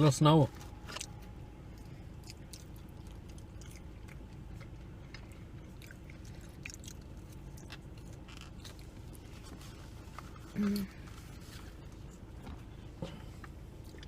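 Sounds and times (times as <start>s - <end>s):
low steady hum: 0.0s - 14.0s
people chewing food: 0.6s - 14.0s.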